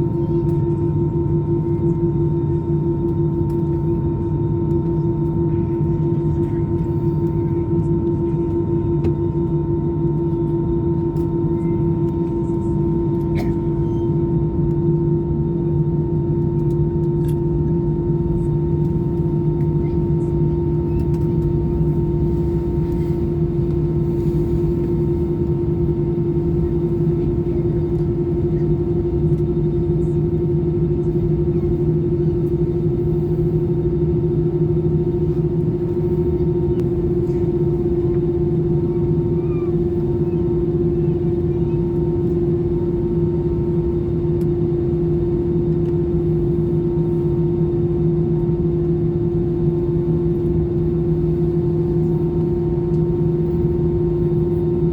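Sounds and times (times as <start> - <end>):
jet engine and airflow drone: 0.0 - 54.9.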